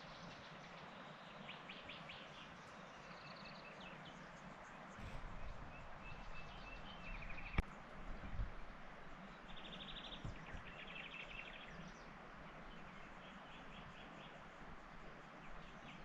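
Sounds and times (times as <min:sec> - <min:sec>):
small birds trilling: 0:00.0 - 0:08.4, 0:09.0 - 0:16.0
steady outdoor hiss: 0:00.0 - 0:16.0.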